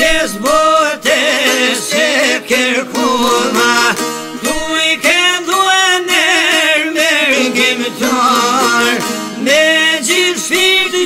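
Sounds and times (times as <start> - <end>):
man singing ornamented folk song: 0.0 - 11.0
plucked string accompaniment: 0.0 - 11.0.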